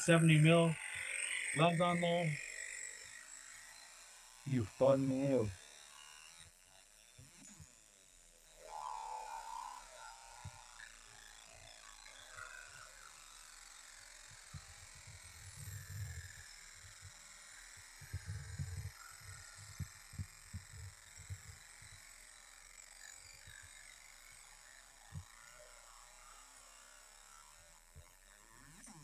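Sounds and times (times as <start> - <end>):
laser engraver buzz and hiss: 0.0 - 29.0.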